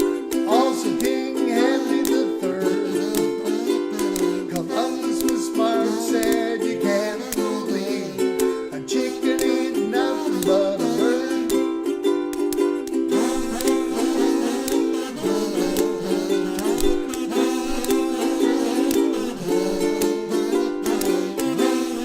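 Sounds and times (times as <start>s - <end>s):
ukulele melody: 0.0s - 22.0s
ukulele strumming chords: 0.0s - 22.0s.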